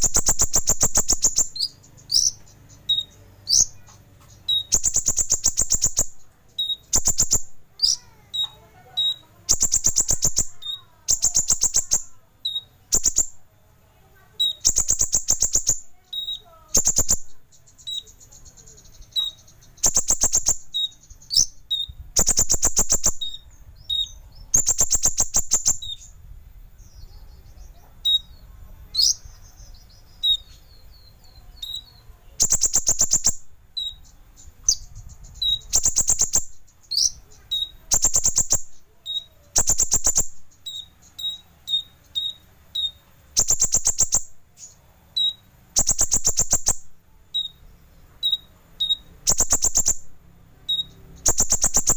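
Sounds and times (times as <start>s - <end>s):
bird singing high trills: 0.0s - 13.4s, 14.1s - 26.2s, 26.9s - 51.9s
sharp bird chirps: 0.0s - 13.5s, 14.1s - 26.2s, 26.8s - 51.9s.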